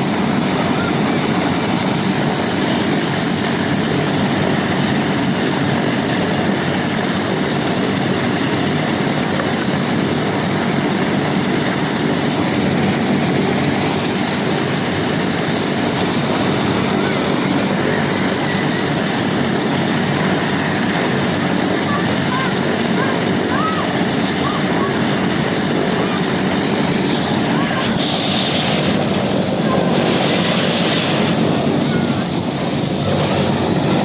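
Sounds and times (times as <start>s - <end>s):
helicopter rotor rushing: 0.0s - 34.0s
turbine high whine: 0.0s - 34.0s.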